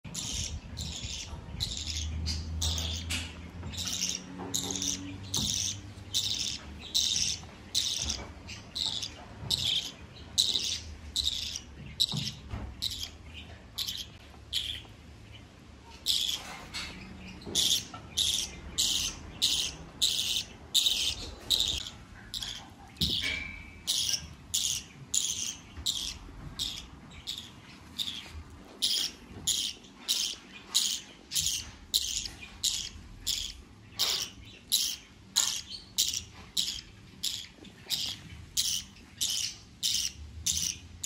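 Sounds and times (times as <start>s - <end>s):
budgerigar chicks chirping: 0.0s - 41.0s.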